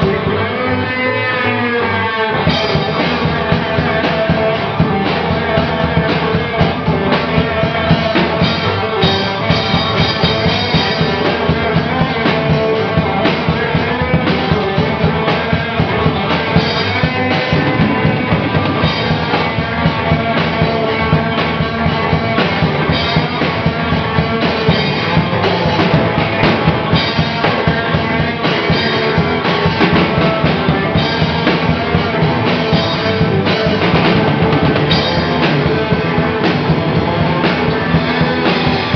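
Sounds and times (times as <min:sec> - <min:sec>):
bass guitar: 0:00.0 - 0:38.9
drum kit beating: 0:00.0 - 0:38.9
electric guitar: 0:00.0 - 0:38.9.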